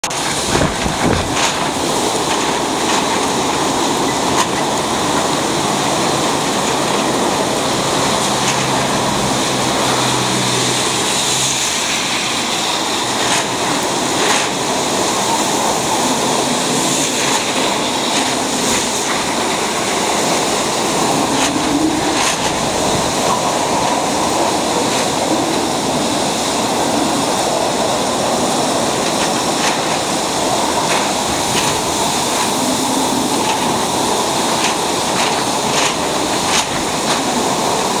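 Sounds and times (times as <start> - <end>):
wind and heavy rain roaring: 0.0 - 38.0.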